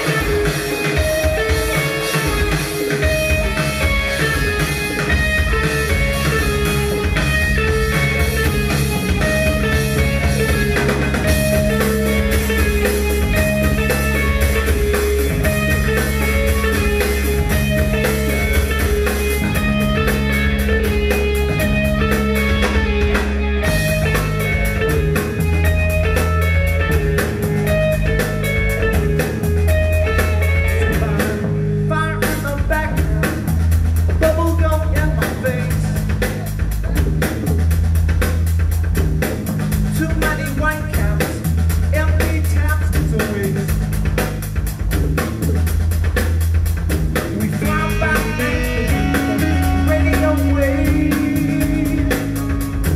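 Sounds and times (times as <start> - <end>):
rock band playing instrumental: 0.0 - 52.9.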